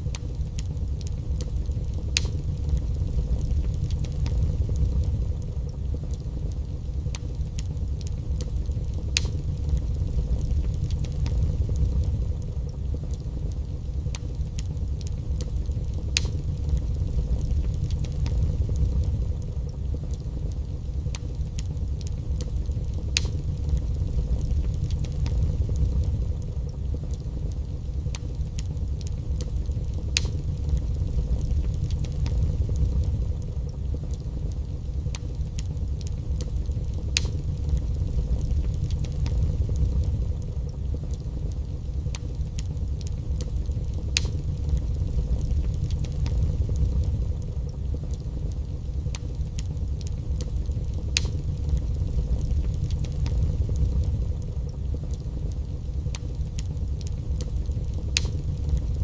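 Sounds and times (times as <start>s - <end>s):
fire low rumble: 0.0s - 59.0s
wood fire crackling pops: 0.0s - 59.0s.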